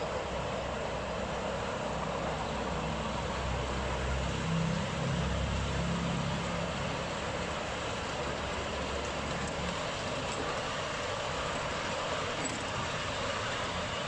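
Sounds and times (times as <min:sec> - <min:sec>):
small petrol engine droning: 0:00.0 - 0:14.0
train wheels rumbling on rails: 0:00.0 - 0:14.0.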